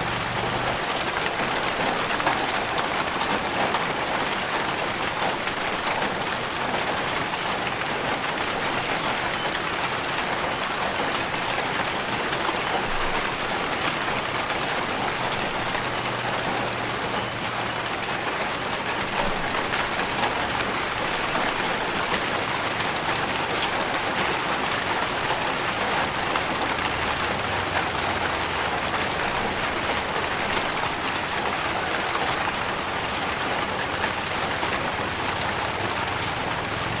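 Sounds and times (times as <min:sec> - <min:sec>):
rain falling: 0:00.0 - 0:37.0
raindrops hitting: 0:00.0 - 0:37.0.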